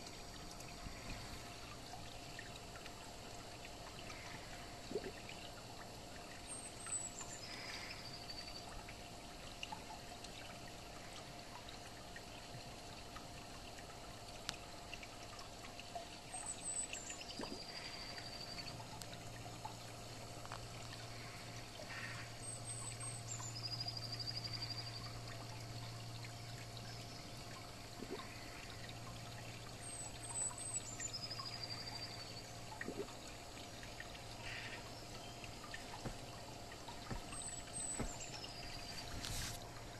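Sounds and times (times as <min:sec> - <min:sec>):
faint low hum: 0:00.0 - 0:39.9
water trickling in a pond: 0:00.0 - 0:39.9.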